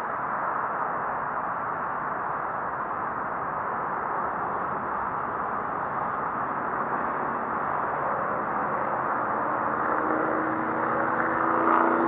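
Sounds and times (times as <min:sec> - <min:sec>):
steady hum tones: 0:00.0 - 0:12.0.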